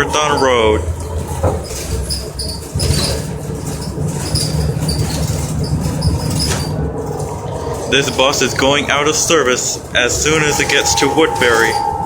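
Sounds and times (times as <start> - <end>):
bus body squeaks and rattles: 0.0 - 12.0
bus engine droning: 0.0 - 12.0.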